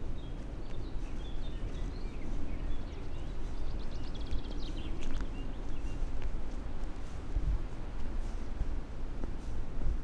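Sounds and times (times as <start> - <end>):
songbirds chirping: 0.0 - 8.9
steady low rumble: 0.0 - 10.0.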